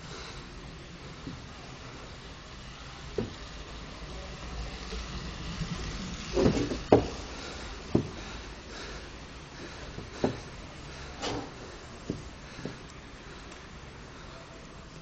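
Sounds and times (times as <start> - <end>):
bicycle rolling on wooden boards: 0.0 - 14.2.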